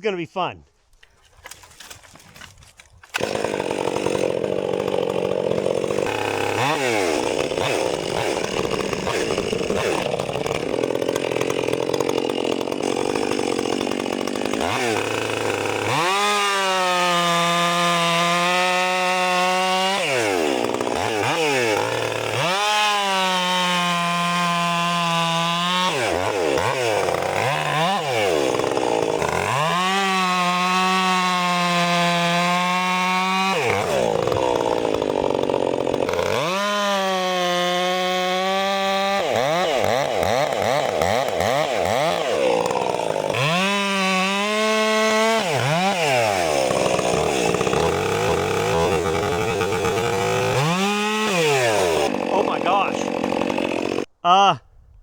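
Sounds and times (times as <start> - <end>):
chainsaw cutting and revving: 1.4 - 54.1.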